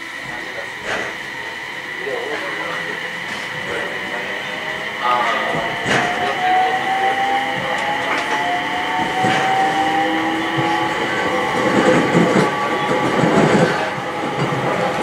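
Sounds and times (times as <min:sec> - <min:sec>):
train ride noise: 0:00.0 - 0:15.0.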